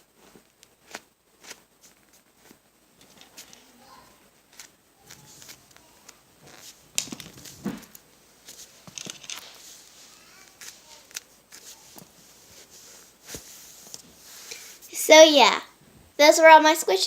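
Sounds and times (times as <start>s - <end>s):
foam toys tapping and rustling: 0.2s - 14.6s.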